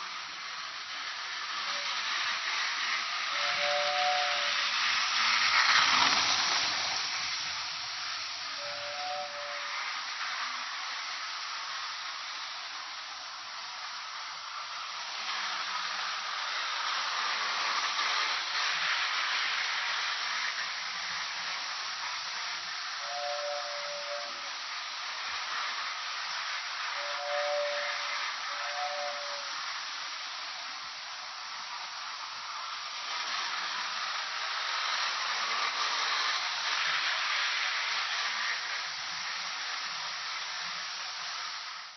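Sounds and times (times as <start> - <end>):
train hissing: 0.0 - 41.9.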